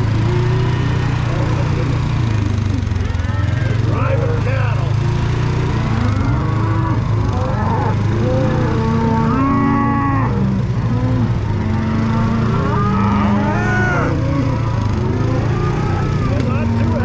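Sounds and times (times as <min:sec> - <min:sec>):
engine idling hum: 0:00.0 - 0:17.0
cattle mooing: 0:01.4 - 0:17.0.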